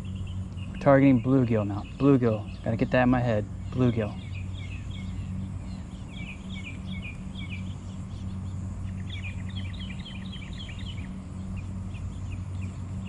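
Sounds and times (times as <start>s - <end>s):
fast bird trill: 0.0s - 13.0s
songbirds chirping: 0.0s - 13.0s
steady low hum: 0.0s - 13.0s.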